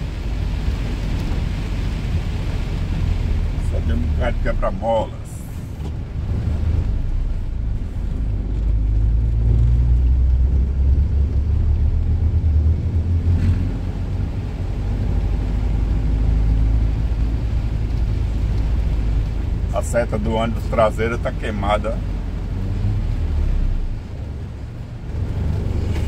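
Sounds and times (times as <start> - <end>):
truck diesel engine rumbling: 0.0 - 26.0.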